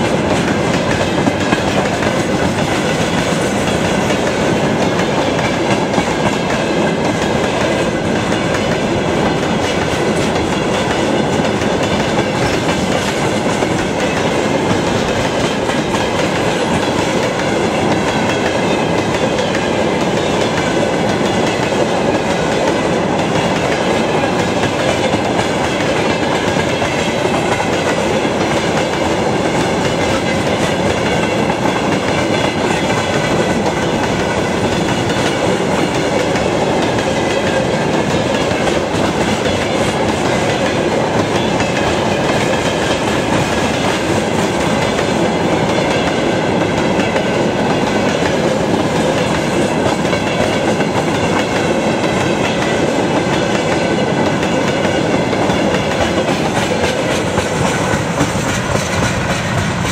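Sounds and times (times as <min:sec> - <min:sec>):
clickety-clack over track: 0:00.0 - 0:59.9
train wheels rumbling on rails: 0:00.0 - 0:59.9.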